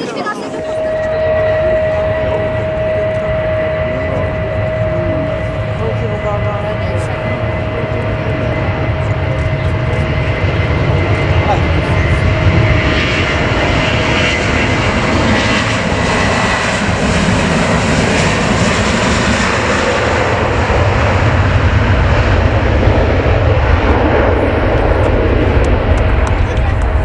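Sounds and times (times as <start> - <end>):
jet engines at high power: 0.0 - 27.0.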